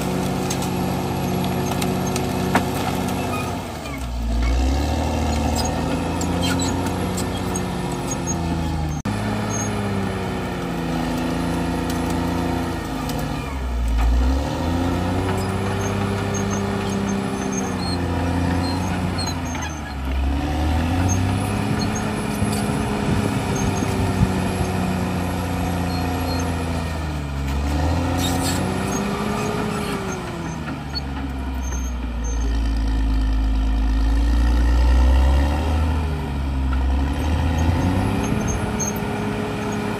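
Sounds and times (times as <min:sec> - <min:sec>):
bulldozer engine under load: 0:00.0 - 0:39.9.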